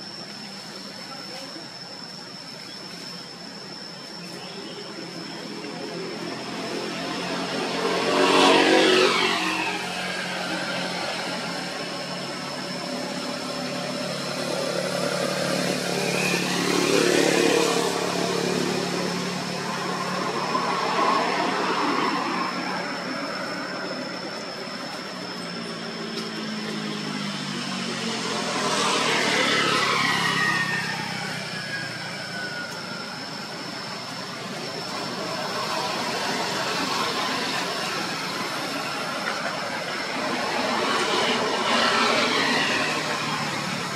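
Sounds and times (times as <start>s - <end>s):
thin high whine: 0.0s - 43.9s
vehicles passing by: 3.2s - 43.9s.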